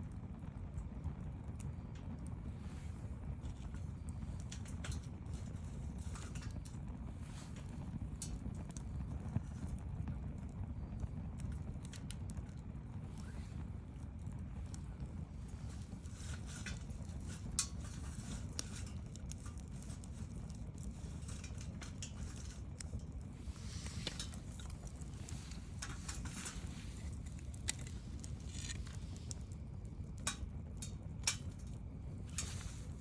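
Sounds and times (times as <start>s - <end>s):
low steady rumble: 0.0s - 33.0s
sharp pops of fire: 0.0s - 33.0s
wood bonfire crackling: 0.0s - 33.0s.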